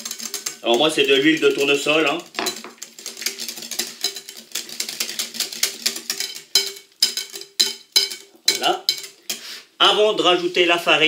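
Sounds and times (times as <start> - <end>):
whisk clicking against glass bowl: 0.0 - 9.4.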